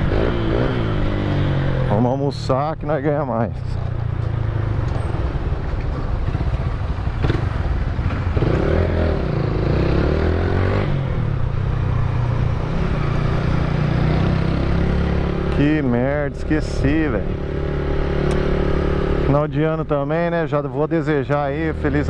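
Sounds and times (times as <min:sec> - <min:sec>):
motorcycle engine drone: 0:00.0 - 0:22.0.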